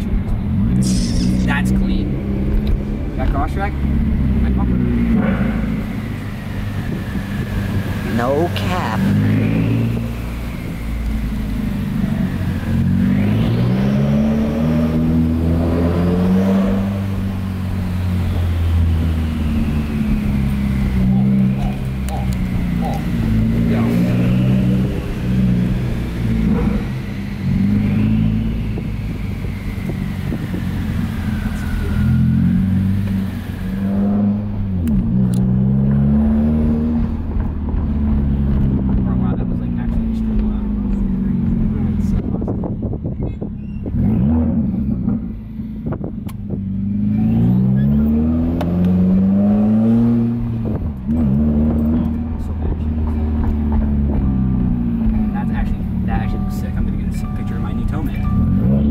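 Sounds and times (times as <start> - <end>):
car exhaust note revving: 0.4 - 43.2, 43.9 - 58.9.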